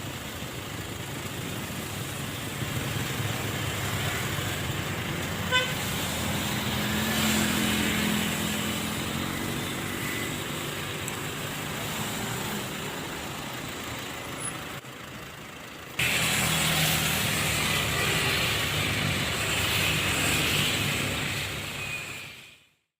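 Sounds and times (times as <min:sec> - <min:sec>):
road traffic passing: 0:00.0 - 0:22.9.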